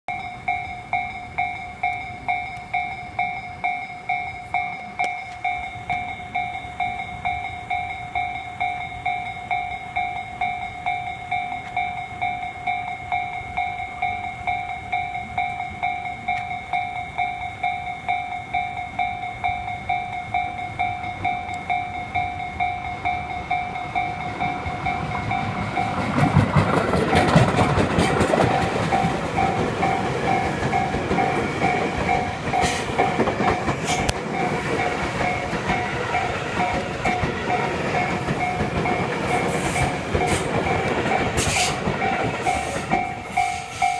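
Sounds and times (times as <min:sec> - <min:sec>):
level crossing warning bell: 0:00.1 - 0:43.9
passing train rumble and clatter: 0:00.1 - 0:43.9.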